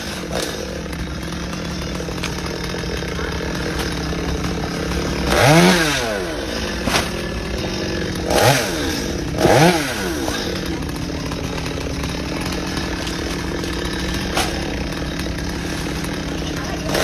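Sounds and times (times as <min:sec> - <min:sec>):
chainsaw engine idling and revving: 0:00.0 - 0:17.0.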